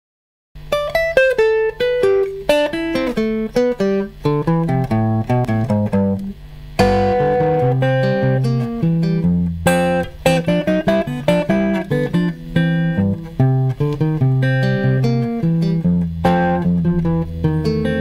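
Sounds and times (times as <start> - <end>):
guitar chord strummed: 0.6 - 18.0
guitar picked notes: 0.6 - 18.0.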